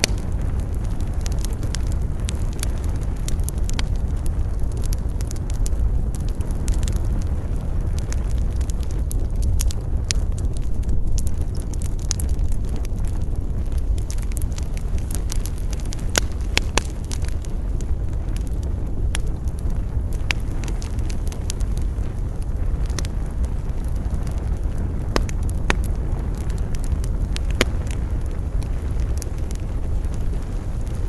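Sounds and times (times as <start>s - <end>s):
campfire crackling and popping: 0.0s - 31.0s
low rumble of wind: 0.0s - 31.0s.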